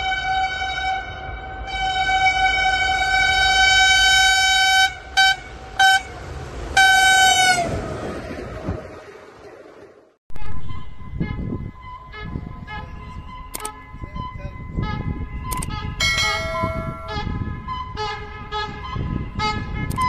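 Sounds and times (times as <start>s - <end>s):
locomotive horn: 0.0s - 8.1s, 10.4s - 20.0s
train low rumble: 0.0s - 20.0s.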